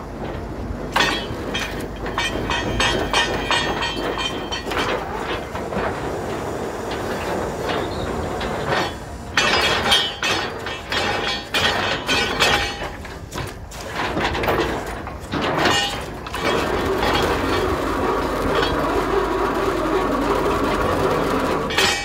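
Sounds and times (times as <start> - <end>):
drilling rig rattling and clanking: 0.0 - 22.0.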